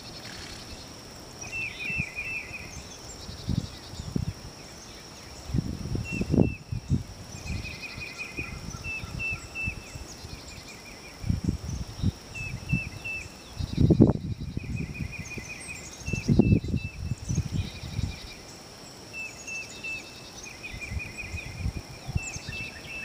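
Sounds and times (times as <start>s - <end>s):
birds chirping and trilling: 0.0s - 23.0s
high insect-like tone: 0.0s - 23.0s.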